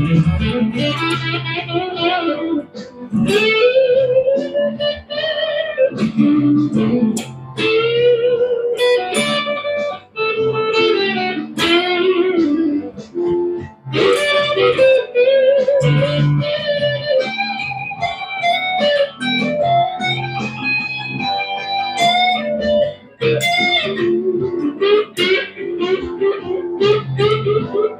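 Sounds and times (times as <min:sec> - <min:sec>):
electric guitar lead line: 0:00.0 - 0:27.9.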